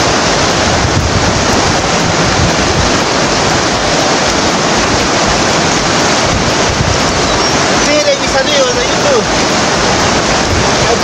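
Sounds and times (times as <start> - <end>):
fast-flowing river rushing: 0.0 - 11.0
wind rumble on microphone: 0.0 - 11.0.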